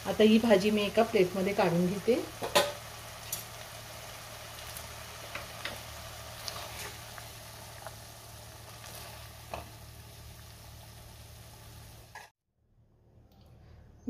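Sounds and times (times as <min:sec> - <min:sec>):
food sizzling in pan: 0:00.0 - 0:12.3.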